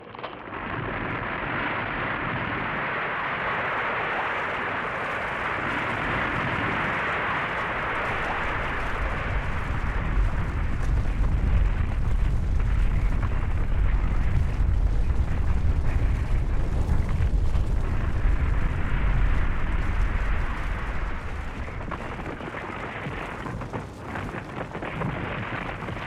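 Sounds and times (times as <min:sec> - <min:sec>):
avalanche deep rumble: 0:00.4 - 0:26.0.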